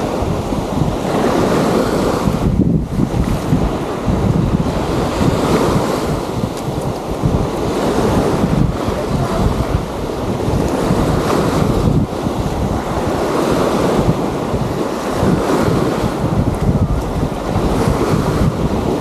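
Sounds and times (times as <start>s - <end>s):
waves on beach: 0.0s - 19.0s
wind buffeting microphone: 0.0s - 19.0s.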